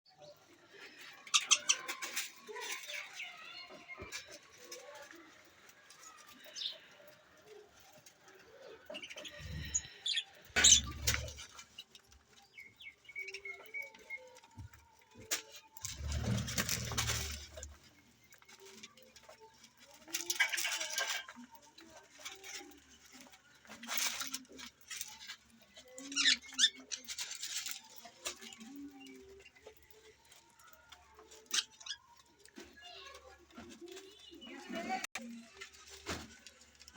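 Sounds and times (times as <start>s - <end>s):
rustling and wing-flapping: 0.2s - 36.9s.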